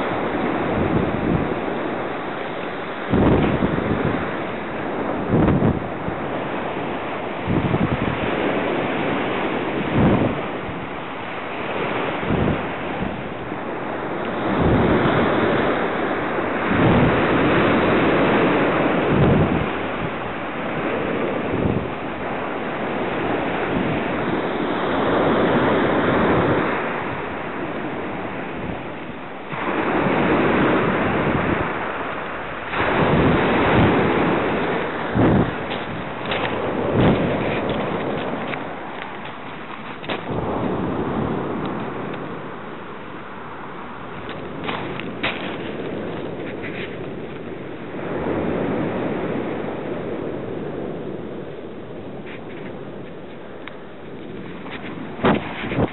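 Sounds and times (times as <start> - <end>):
sea surf breaking on shore: 0.0 - 55.9
wind buffeting microphone: 0.0 - 55.9.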